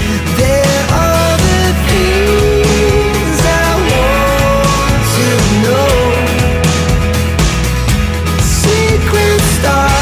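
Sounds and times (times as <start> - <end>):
song with bass and drum beat: 0.0 - 10.0.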